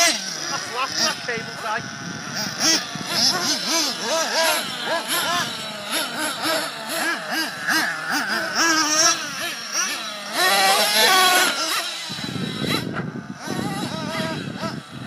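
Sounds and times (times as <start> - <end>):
toy truck motor revving: 0.0 - 15.0.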